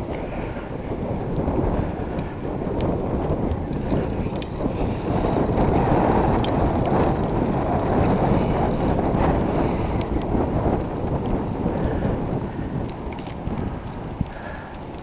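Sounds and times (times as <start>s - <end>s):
bike clicks and rattles: 0.0s - 15.0s
bike tyre noise: 0.0s - 15.0s
wind rumble on microphone: 0.0s - 15.0s.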